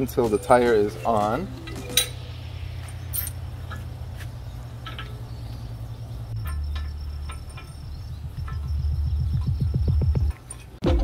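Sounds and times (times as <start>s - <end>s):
metal washers and bolts clinking: 0.0s - 9.6s, 10.2s - 10.8s
quiet background music: 0.0s - 11.0s.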